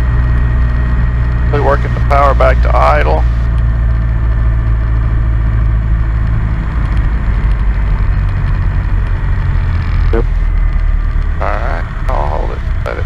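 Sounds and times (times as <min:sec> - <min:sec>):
aircraft engine idling: 0:00.0 - 0:13.0.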